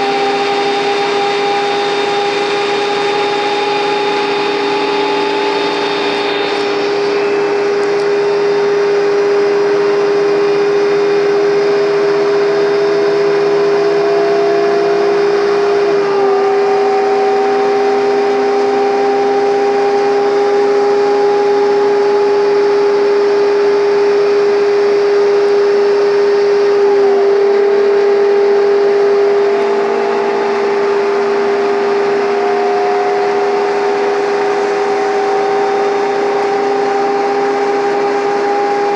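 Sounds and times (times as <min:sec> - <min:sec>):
bus diesel engine pulling uphill: 0:00.0 - 0:38.9
high engine whine: 0:00.0 - 0:38.9.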